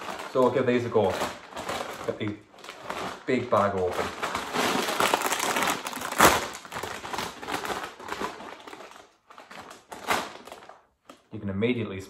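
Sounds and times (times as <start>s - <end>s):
plastic packet crinkling: 0.0s - 11.3s.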